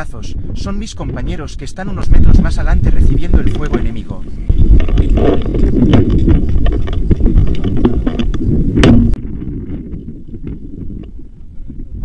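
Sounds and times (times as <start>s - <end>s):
heavy rumbling wind: 0.0s - 12.0s.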